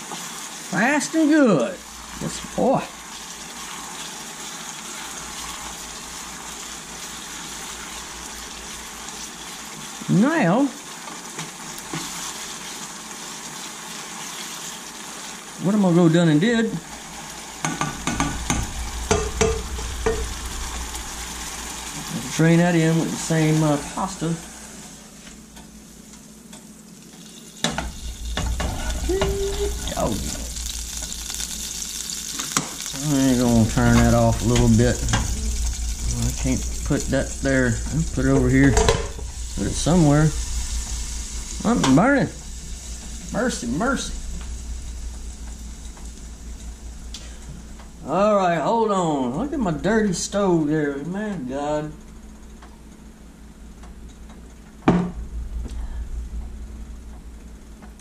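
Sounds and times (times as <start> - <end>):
meat sizzling in a saucepan: 0.0 - 50.4.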